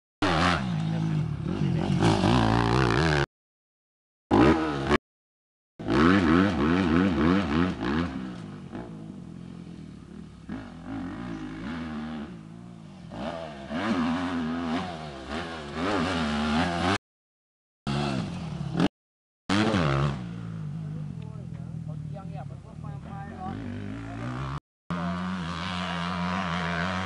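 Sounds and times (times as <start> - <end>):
motocross bike engine revving: 0.2 - 3.3, 4.3 - 5.0, 5.8 - 17.0, 17.9 - 18.9, 19.5 - 27.0.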